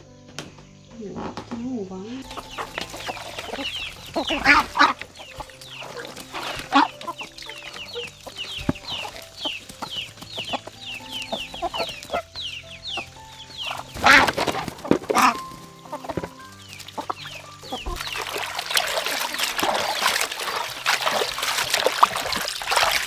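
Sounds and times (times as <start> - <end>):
chickens clucking: 1.0 - 23.0.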